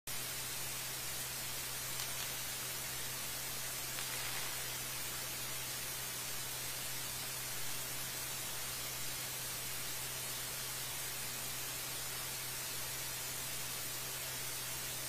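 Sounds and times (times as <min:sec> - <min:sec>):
static hiss: 0:00.1 - 0:15.0.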